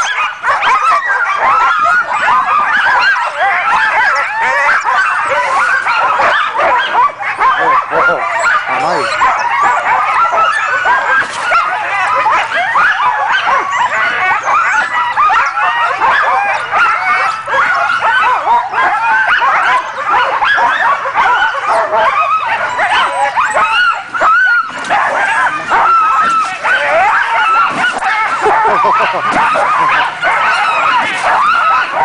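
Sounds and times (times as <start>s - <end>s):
sled dogs yelping and barking: 0.0s - 32.0s.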